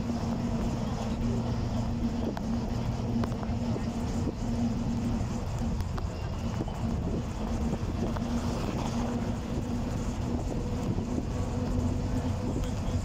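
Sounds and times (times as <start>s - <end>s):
bus engine low rumble: 0.0s - 13.0s.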